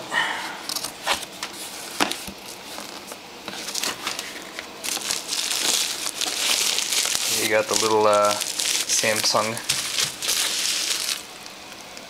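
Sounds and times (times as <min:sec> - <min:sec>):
bubble wrap crinkling: 0:00.7 - 0:12.0
cardboard sliding rustle: 0:01.0 - 0:11.2.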